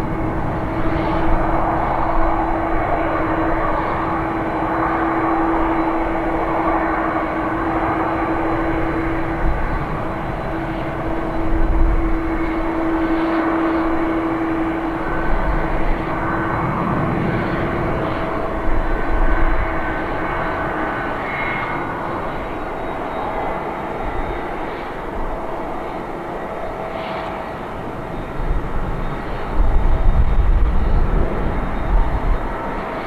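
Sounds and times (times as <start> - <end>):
jet engine hum and whine: 0.0 - 33.0.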